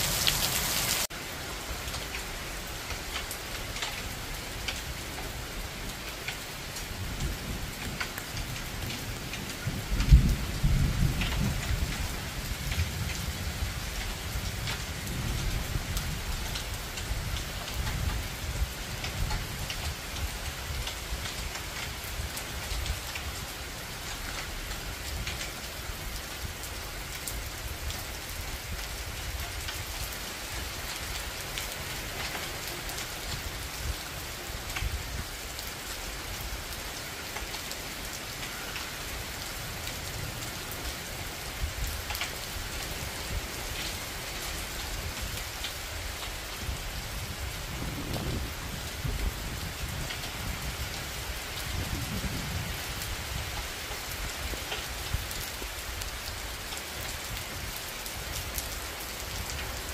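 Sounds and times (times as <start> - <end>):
heavy rain on trees: 0.0 - 59.9.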